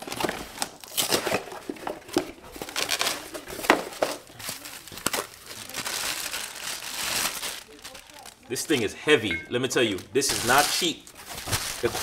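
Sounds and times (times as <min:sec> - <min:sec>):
packing wrap crinkling: 0:00.0 - 0:12.0.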